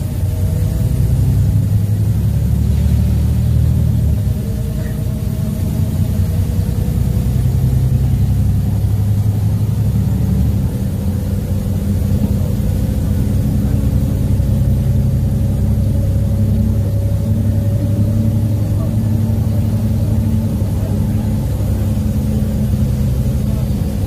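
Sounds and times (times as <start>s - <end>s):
bus engine drone: 0.0s - 24.0s
faint rising whine: 0.0s - 24.0s
road noise: 0.0s - 24.0s.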